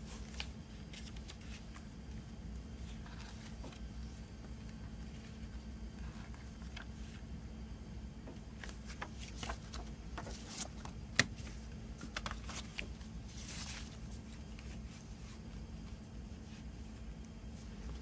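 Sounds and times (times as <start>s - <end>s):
paper pages rustling: 0.0s - 7.2s, 8.5s - 18.0s.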